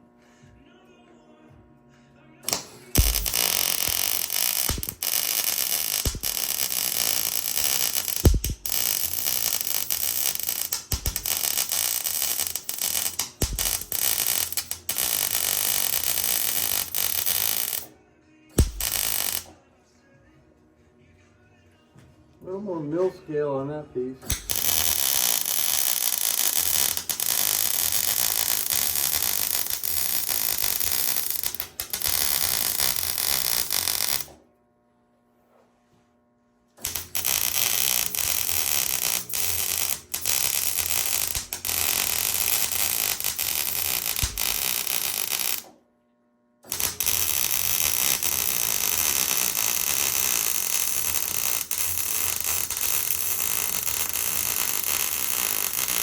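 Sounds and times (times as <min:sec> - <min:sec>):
arc welder crackling hiss: 0:02.4 - 0:17.9, 0:18.5 - 0:19.5, 0:24.2 - 0:34.4, 0:36.8 - 0:45.7, 0:46.7 - 0:56.0.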